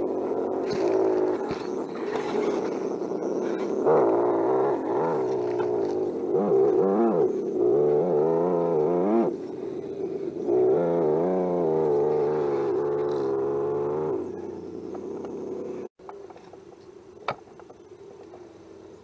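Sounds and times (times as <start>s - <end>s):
simulated engine revving: 0.0s - 15.9s.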